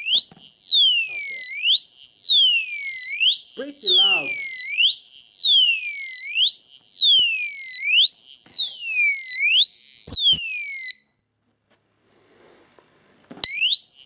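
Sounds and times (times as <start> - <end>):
alarm siren wailing: 0.0 - 11.2, 13.4 - 14.0.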